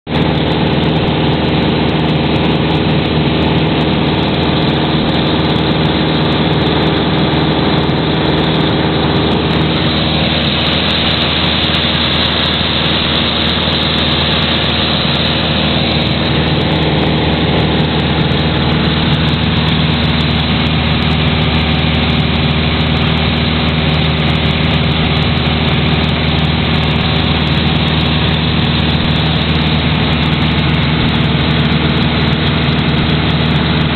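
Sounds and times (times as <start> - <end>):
aircraft engine droning: 0.1 - 33.9.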